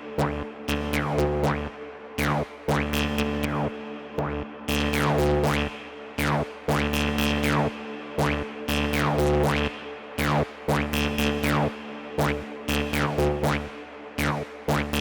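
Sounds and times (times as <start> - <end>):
steady bass tone: 0.2 - 15.0.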